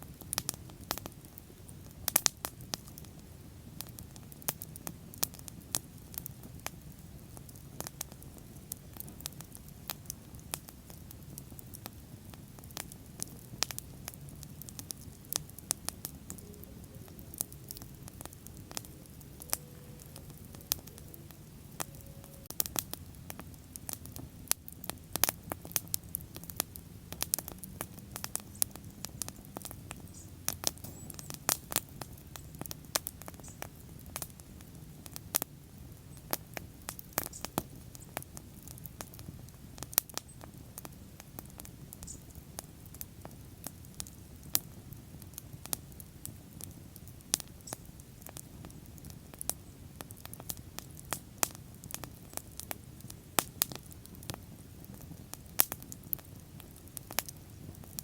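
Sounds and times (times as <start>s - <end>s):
bonfire crackling and popping: 0.0s - 58.0s
low rumble of flame: 0.0s - 58.0s.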